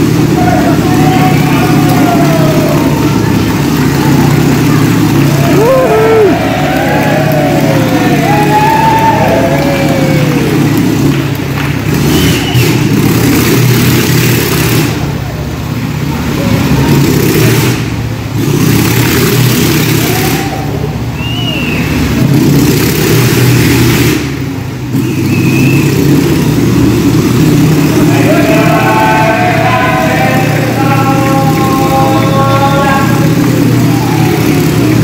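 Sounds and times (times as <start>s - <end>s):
motorcycle engine running hard: 0.0s - 35.0s.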